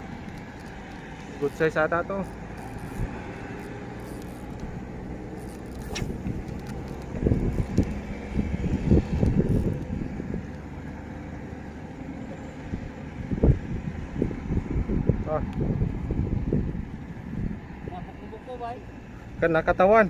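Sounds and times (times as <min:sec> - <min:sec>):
wind rumbling on microphone: 0:00.0 - 0:18.3.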